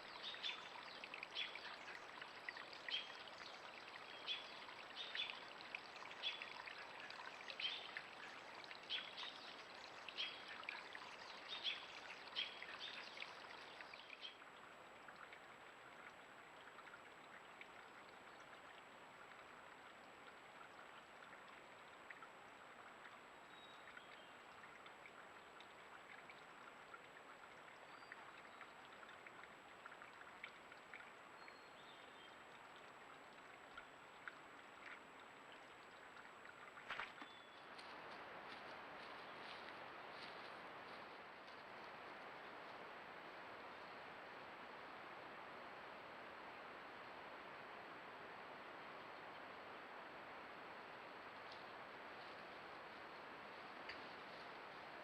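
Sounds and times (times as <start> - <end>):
faint outdoor hiss: 0.0 - 55.0.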